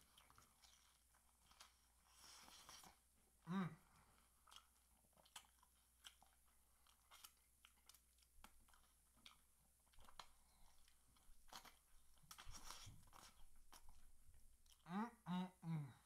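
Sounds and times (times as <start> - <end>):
person chewing crispy food: 0.0 - 3.1, 4.0 - 14.9.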